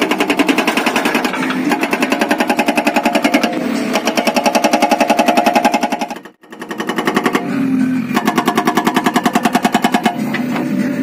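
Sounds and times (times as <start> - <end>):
hydraulic breaker hammering rock: 0.0 - 11.0.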